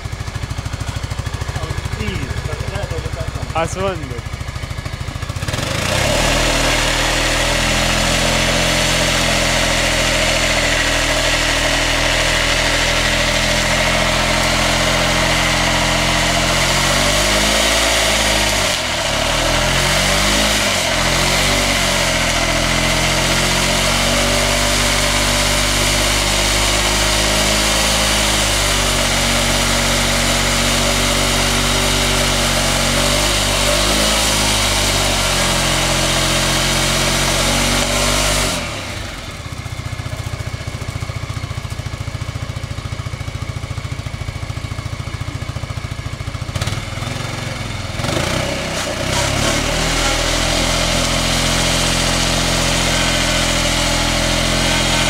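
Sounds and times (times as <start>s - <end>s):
scooter engine at high revs: 0.0s - 55.0s
tyre spinning on wet concrete: 4.4s - 43.9s, 48.0s - 55.0s.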